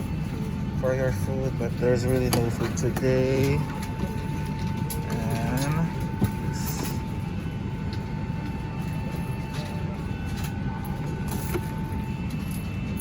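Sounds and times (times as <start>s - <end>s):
airplane cabin rumble and hum: 0.0s - 13.0s
thin steady whine: 0.0s - 13.0s.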